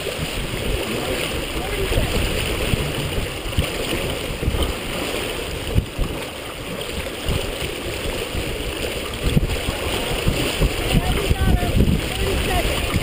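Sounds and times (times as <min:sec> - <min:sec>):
water rushing along a hull: 0:00.0 - 0:13.0
wind rumbling on microphone: 0:00.0 - 0:13.0.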